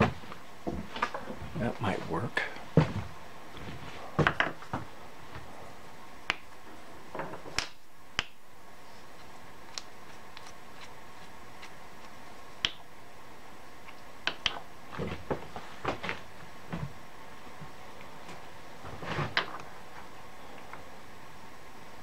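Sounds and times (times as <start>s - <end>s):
faint shop hum: 0.0s - 22.0s.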